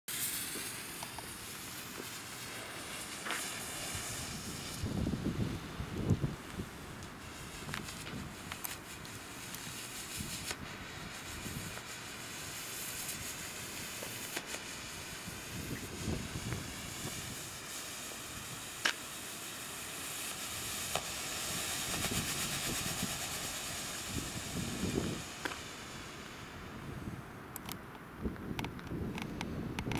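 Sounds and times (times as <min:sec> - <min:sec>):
smoke canister hissing: 0:00.1 - 0:27.8.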